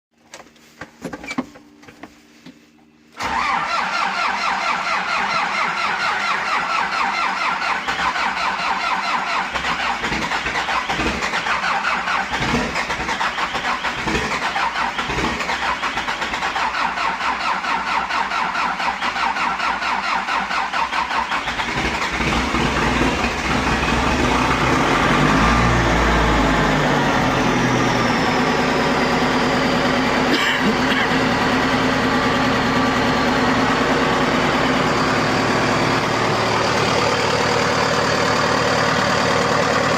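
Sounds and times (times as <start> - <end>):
diesel engine running: 2.2 - 39.9
starter cranking diesel engine: 3.2 - 39.9.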